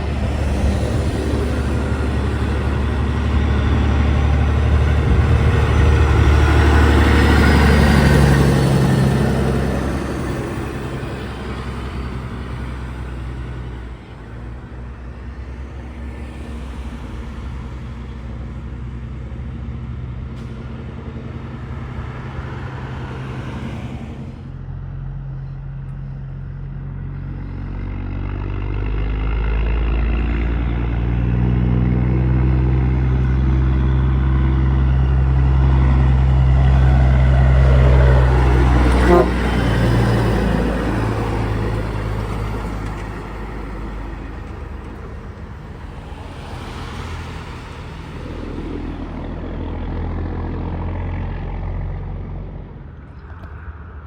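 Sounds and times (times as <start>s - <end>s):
diesel truck engine drone: 0.0s - 54.0s
road noise: 0.0s - 54.0s.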